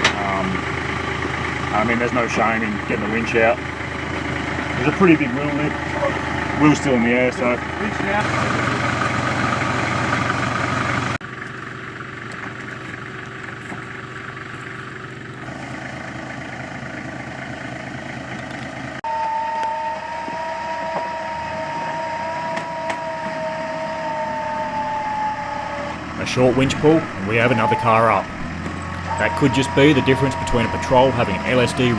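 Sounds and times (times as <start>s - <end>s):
vehicle engine running: 0.0s - 19.0s, 20.6s - 31.9s
winch motor whining: 0.0s - 31.9s.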